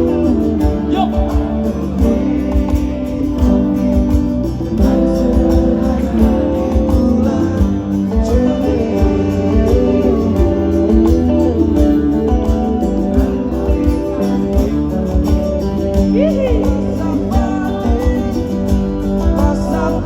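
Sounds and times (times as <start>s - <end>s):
guitar: 0.0s - 20.0s
live band music: 0.0s - 20.0s.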